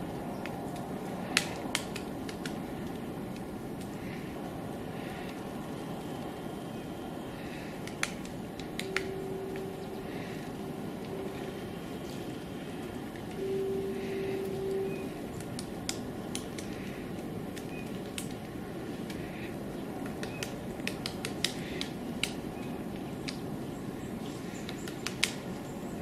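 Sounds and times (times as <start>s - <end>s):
low background rumble: 0.0s - 26.0s
woodpecker pecking on bark: 0.4s - 4.3s, 7.4s - 13.4s, 14.0s - 23.5s, 24.2s - 25.7s.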